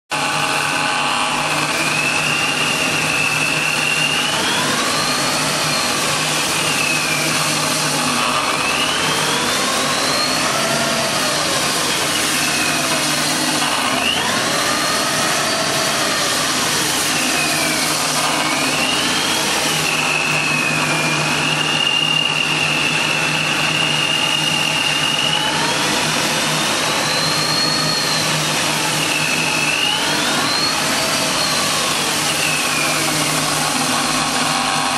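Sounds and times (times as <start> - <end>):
supercharger whine: 0.1 - 34.9.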